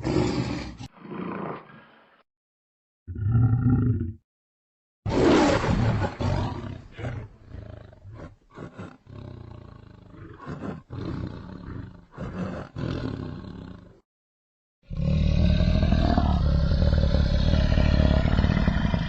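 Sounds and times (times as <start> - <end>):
large animal roaring: 0.0 - 2.2, 3.1 - 4.2, 5.1 - 14.0, 14.9 - 19.0.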